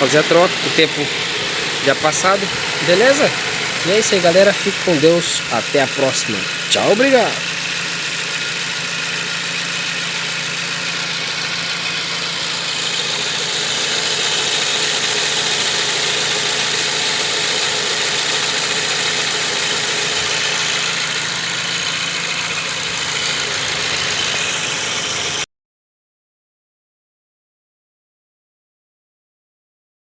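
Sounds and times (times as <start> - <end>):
car engine idling: 0.0 - 25.4.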